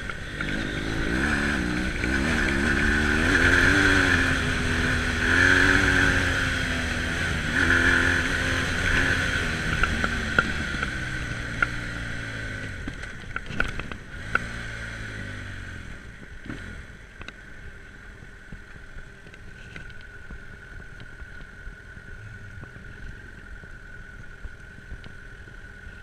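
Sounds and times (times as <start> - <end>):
motorcycle engine slowing and idling: 0.0 - 26.0.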